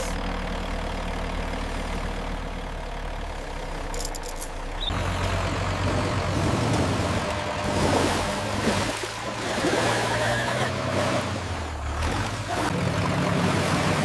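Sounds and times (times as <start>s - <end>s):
deeper engine drone: 0.0s - 14.0s
heavy engine droning: 0.0s - 14.0s.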